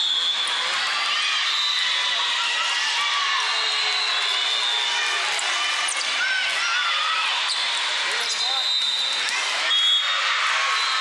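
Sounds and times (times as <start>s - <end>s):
volleyball court noise: 0.0s - 11.0s.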